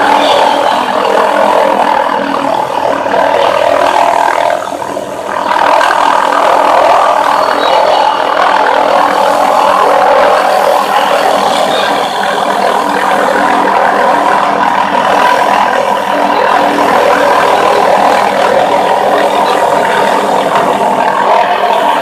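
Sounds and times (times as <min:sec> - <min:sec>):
air saw spinning: 0:00.0 - 0:22.0
helicopter hovering: 0:00.0 - 0:22.0.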